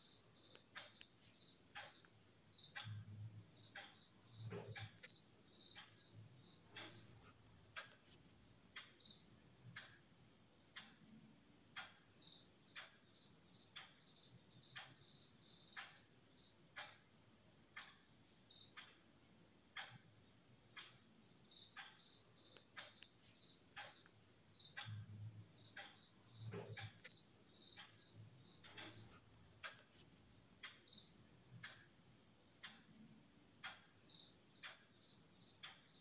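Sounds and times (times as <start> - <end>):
faint ticking: 0.0 - 36.0.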